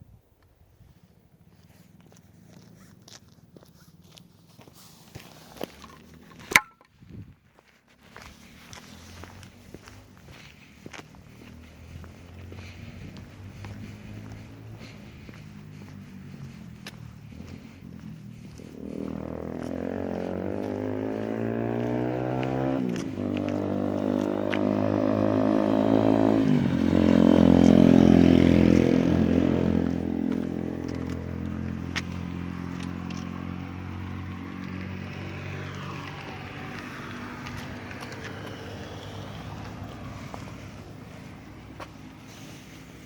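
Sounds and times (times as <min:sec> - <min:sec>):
motor vehicle accelerating past: 0:08.2 - 0:43.0.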